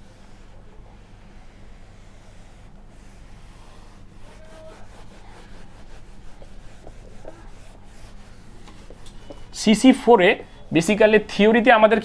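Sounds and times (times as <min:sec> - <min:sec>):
duster wiping a whiteboard: 0:00.0 - 0:11.8
low steady hum: 0:00.0 - 0:12.0.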